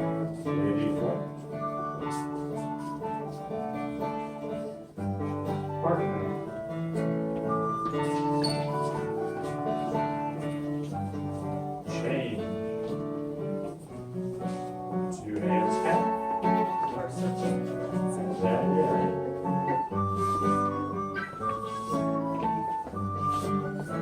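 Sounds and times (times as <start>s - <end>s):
folk trio playing a waltz: 0.0s - 24.0s.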